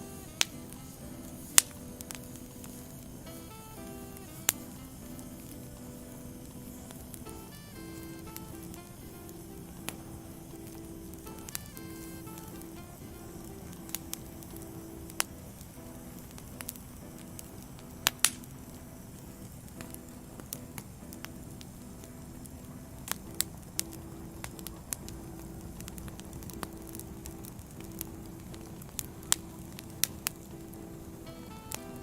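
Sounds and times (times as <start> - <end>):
sharp pops and snaps: 0.0 - 30.9
wood fire crackling: 0.0 - 32.0.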